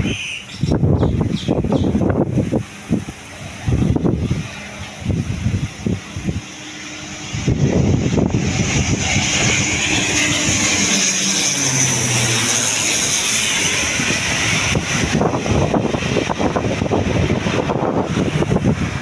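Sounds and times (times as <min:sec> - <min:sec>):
crackling aircraft rumble: 0:00.0 - 0:19.0
propeller aircraft passing overhead: 0:00.0 - 0:19.0.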